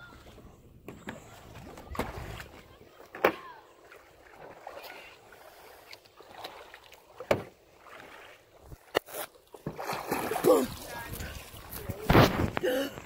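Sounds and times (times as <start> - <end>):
water lapping and sloshing: 0.0 - 13.0
sharp splash: 1.2 - 12.6.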